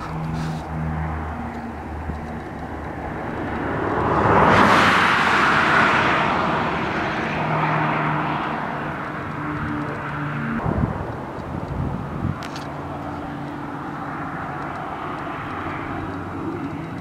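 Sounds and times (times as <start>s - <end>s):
aircraft passing low overhead: 0.0s - 17.0s.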